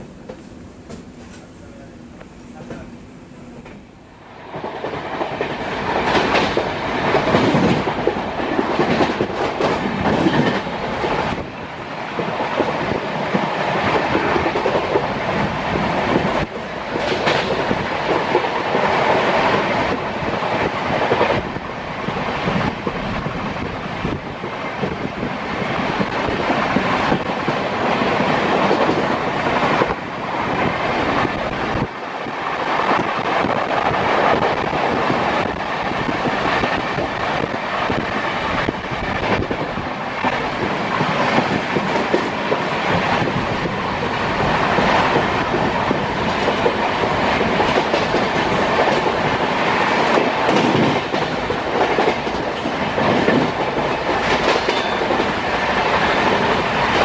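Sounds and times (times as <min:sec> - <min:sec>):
train wheel and wind noise: 0:00.0 - 0:57.0.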